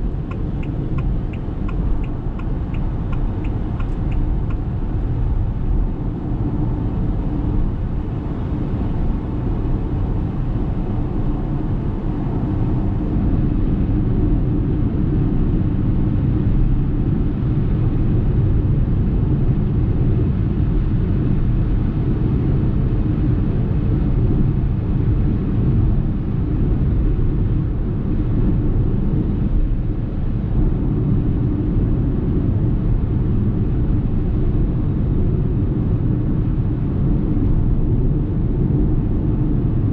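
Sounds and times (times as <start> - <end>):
road and tyre noise: 0.0 - 39.9.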